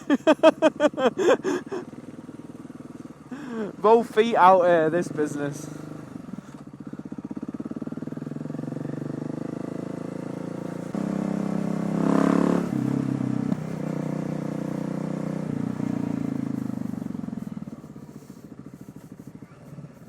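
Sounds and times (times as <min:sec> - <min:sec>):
motorcycle engine pulsing: 0:00.0 - 0:20.0.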